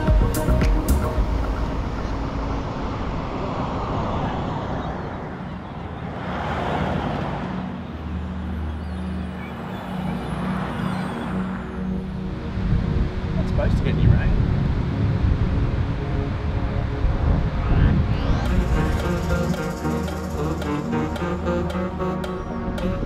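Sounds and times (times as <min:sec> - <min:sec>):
low engine drone: 0:00.0 - 0:23.0
road traffic passing: 0:00.0 - 0:23.0.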